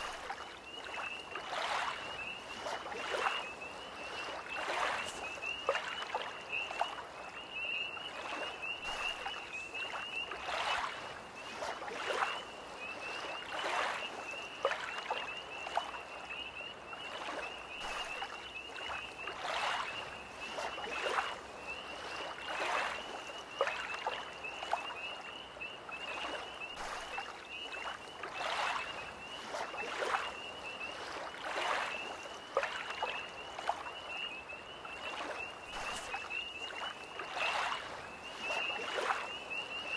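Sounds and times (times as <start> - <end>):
small waves lapping: 0.0 - 39.9
tree frogs trilling: 0.0 - 39.9.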